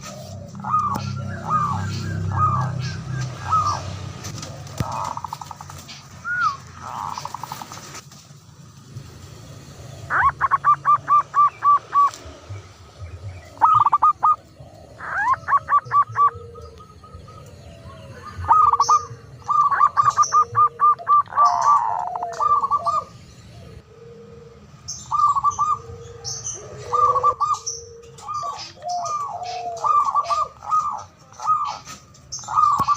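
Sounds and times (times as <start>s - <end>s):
doves calling rapid notes: 0.0s - 32.9s.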